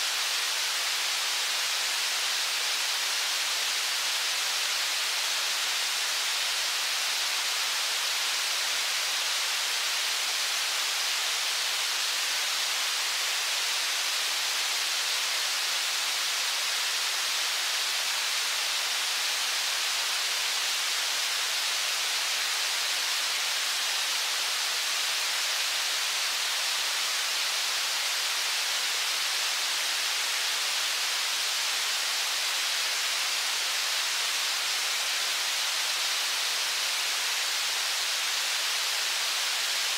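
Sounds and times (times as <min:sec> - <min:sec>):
river rushing through rapids: 0:00.0 - 0:39.9.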